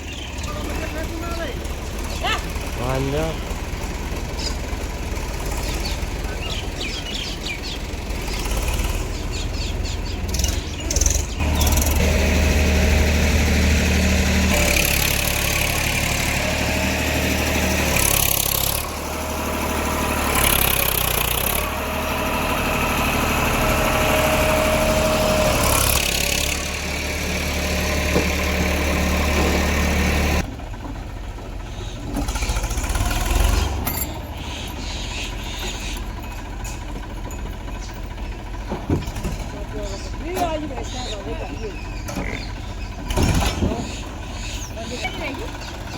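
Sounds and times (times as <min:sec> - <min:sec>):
heavy diesel engine under load: 0:00.0 - 0:45.9.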